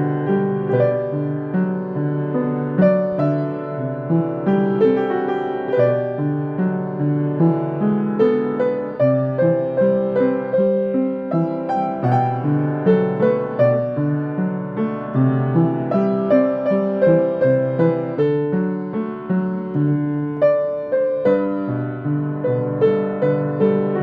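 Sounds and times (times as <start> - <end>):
slow gentle piano melody: 0.0 - 24.0.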